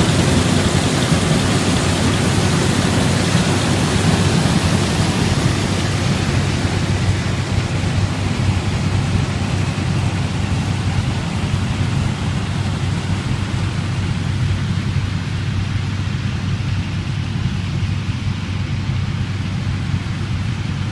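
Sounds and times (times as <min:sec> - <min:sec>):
combine harvester engine rumble: 0:00.0 - 0:20.9
rushing noise: 0:00.0 - 0:20.9.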